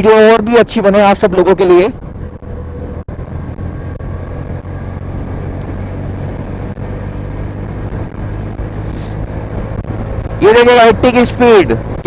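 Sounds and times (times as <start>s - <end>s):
road noise: 0.0s - 12.0s
wind noise: 0.0s - 12.0s
motorcycle engine cruising: 0.7s - 12.0s.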